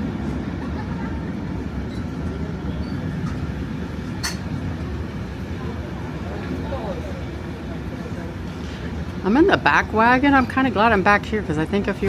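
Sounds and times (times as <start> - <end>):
train carriage rumbling on track: 0.0 - 12.0.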